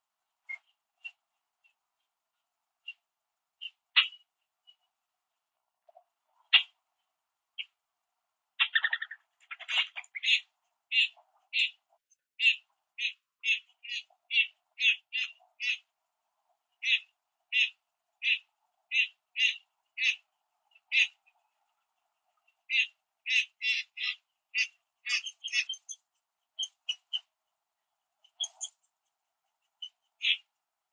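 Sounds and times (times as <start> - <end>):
small bird chirping: 0.4 - 5.0, 5.8 - 6.8, 7.5 - 7.8, 8.6 - 15.9, 16.7 - 27.4, 28.2 - 30.6.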